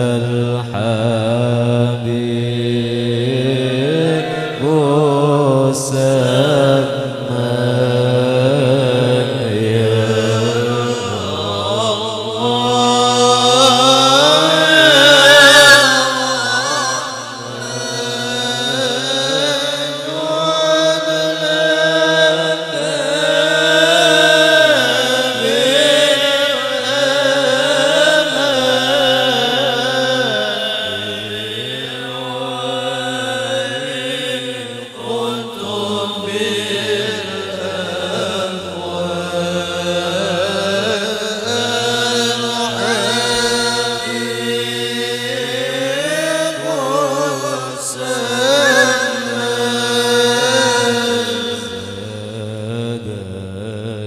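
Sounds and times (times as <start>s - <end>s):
melodic devotional chanting: 0.0s - 54.0s.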